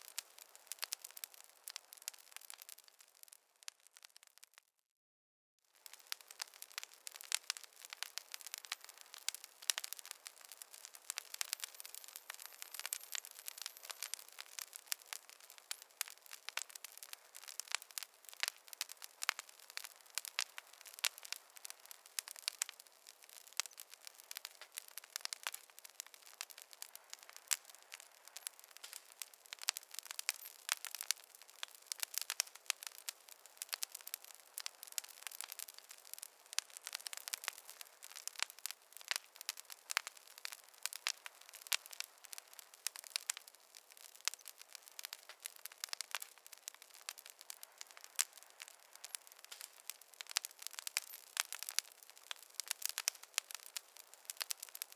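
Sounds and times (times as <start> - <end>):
campfire crackling and popping: 0.0 - 4.7, 5.7 - 54.9.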